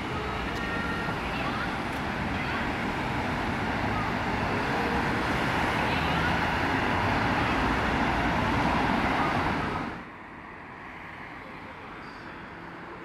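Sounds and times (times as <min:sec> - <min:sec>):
cars passing on busy road: 0:00.0 - 0:13.0.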